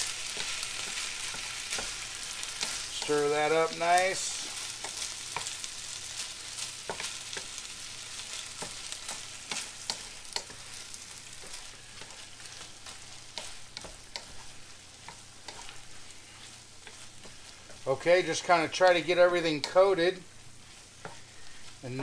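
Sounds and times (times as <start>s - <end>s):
food sizzling in a frying pan: 0.0s - 22.0s
spatula scraping a pan: 0.0s - 22.0s.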